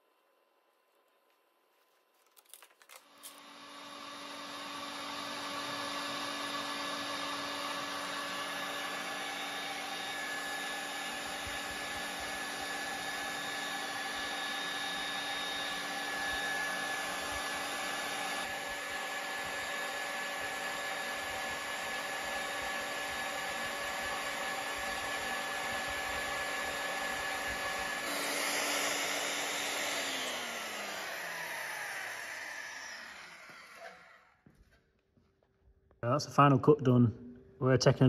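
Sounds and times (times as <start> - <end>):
boring machine running: 2.9 - 34.4.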